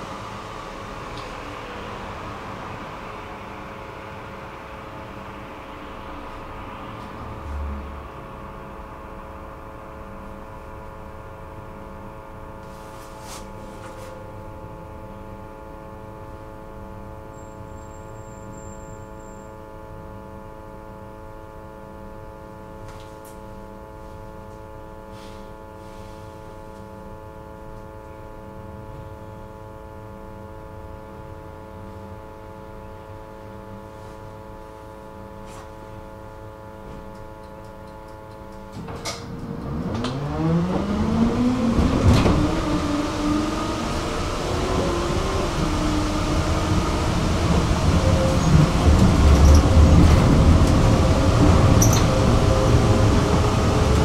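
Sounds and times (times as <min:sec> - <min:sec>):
tram electrical hum: 0:00.0 - 0:54.0.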